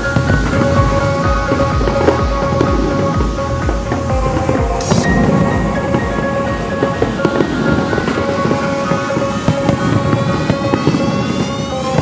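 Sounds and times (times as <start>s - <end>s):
fireworks popping and crackling: 0.0s - 12.0s
music with long held notes: 0.0s - 12.0s.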